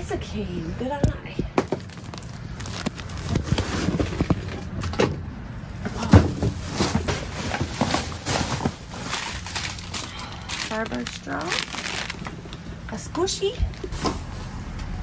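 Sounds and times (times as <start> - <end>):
rustling in a dumpster: 0.9 - 15.0.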